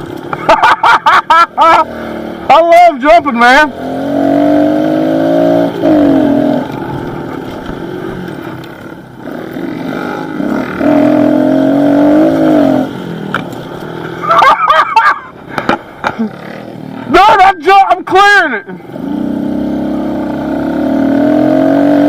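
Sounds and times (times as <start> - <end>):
motorbike engine revving: 0.0 - 17.2, 18.7 - 22.0.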